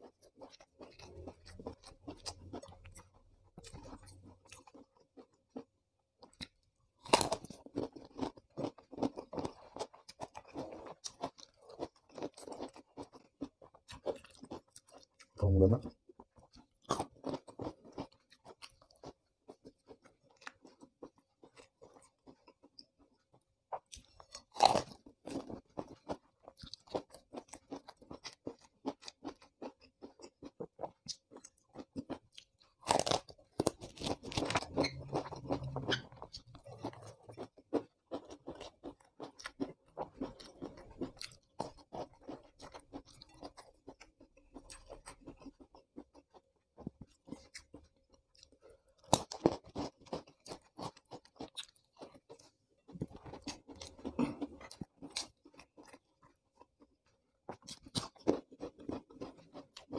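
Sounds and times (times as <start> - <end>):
chewing and crunching vegetables: 0.0 - 59.9.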